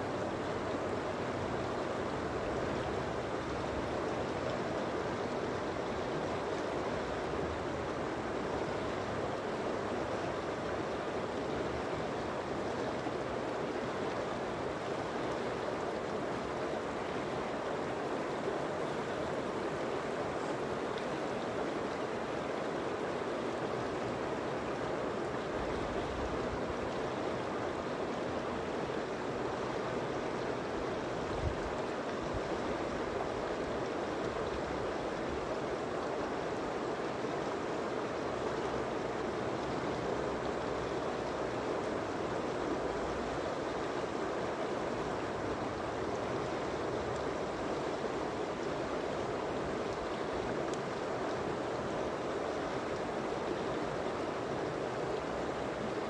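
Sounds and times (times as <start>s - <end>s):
river rushing over stones: 0.0s - 56.0s.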